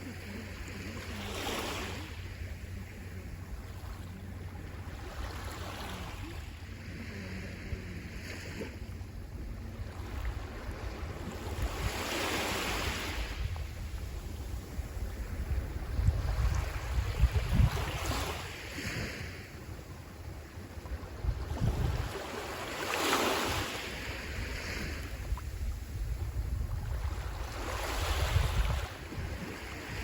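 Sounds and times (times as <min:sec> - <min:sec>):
sea waves washing ashore: 0:00.0 - 0:30.0
wind rumble on microphone: 0:00.0 - 0:30.0.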